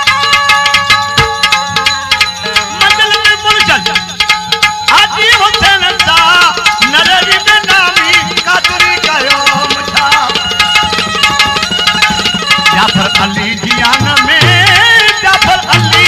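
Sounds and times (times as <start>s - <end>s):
ornamented melody: 0.0s - 16.0s
tabla beat: 0.0s - 16.0s.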